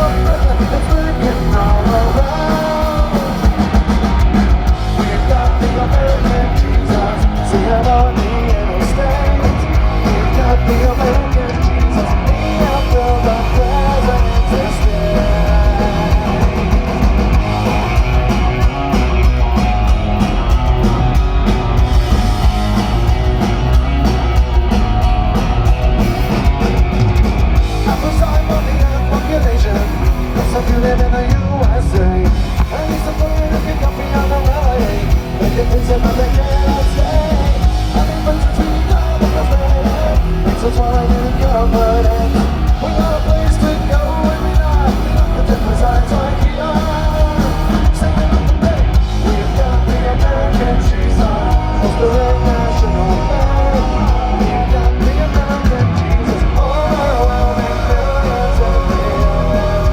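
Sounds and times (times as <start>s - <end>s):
person singing: 0.0s - 17.0s, 27.8s - 59.9s
bass guitar: 0.0s - 59.9s
distorted electric guitars: 0.0s - 59.9s
drum kit: 0.0s - 59.9s.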